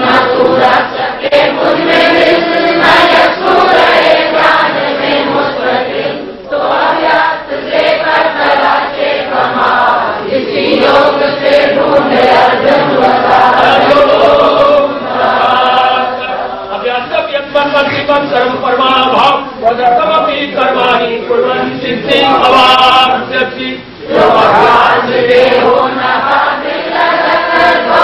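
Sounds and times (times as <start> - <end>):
group of voices singing: 0.0 - 16.9, 17.9 - 28.0.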